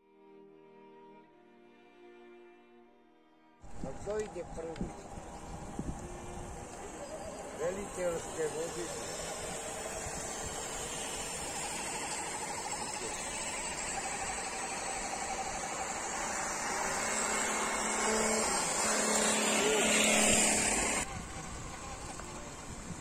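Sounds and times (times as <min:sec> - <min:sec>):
rc truck motors whining: 0:03.6 - 0:23.0.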